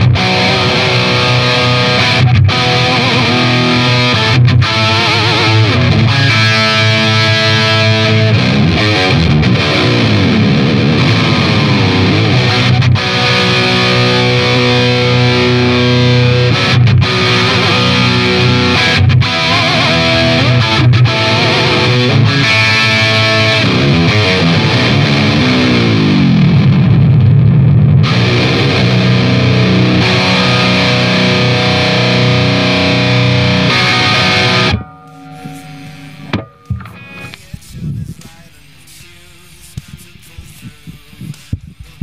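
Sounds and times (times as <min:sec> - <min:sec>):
distorted electric guitar: 0:00.0 - 0:42.0.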